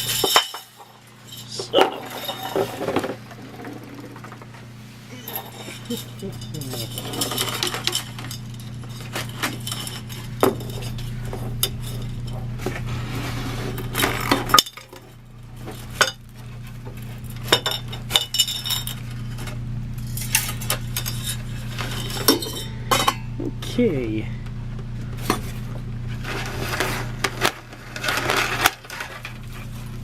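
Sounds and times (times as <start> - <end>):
fan parts clinking and knocking: 0.0 - 12.9, 13.8 - 24.0, 24.8 - 30.0
steady low hum: 0.0 - 30.0.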